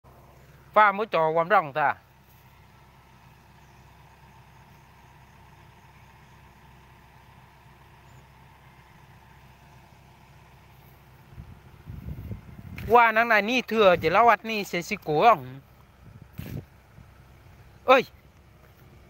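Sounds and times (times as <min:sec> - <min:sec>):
distant excavator diesel engine: 0:00.0 - 0:19.0.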